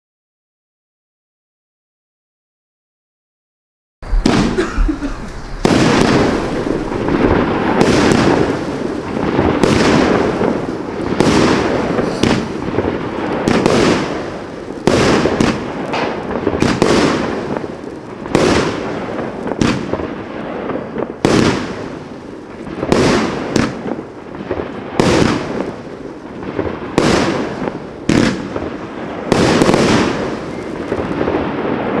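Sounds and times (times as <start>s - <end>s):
crackling hiss: 4.0s - 32.0s
firework reports: 4.0s - 32.0s.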